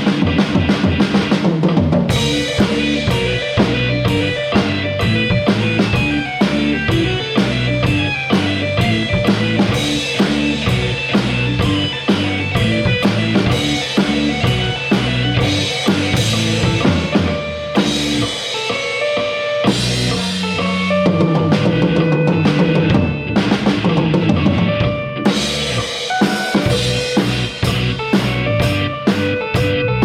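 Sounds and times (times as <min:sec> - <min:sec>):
bass: 0:00.0 - 0:30.0
guitar: 0:00.0 - 0:30.0
rock drum kit playing: 0:00.0 - 0:30.0.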